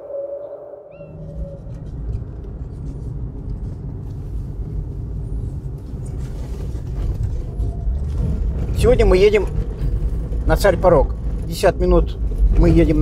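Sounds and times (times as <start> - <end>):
car engine and road rumble: 1.0 - 13.0.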